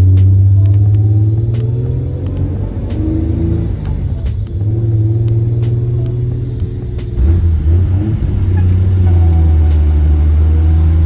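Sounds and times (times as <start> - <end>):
car engine heard from inside: 0.0 - 11.0.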